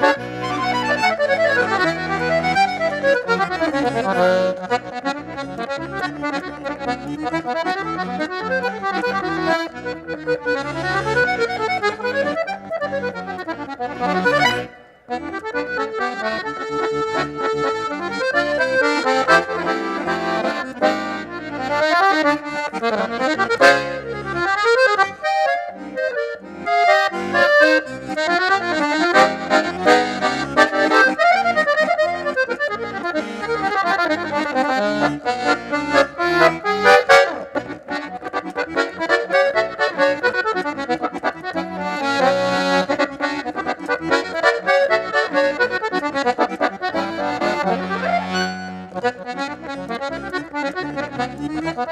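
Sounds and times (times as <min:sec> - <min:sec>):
accordion playing fast melody: 0:00.0 - 0:51.9.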